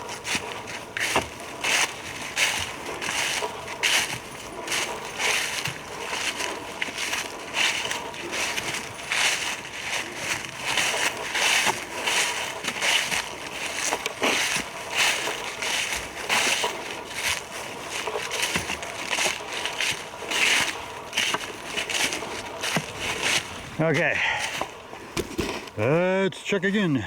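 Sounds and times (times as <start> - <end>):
footsteps crunching dry leaves: 0.0 - 26.0.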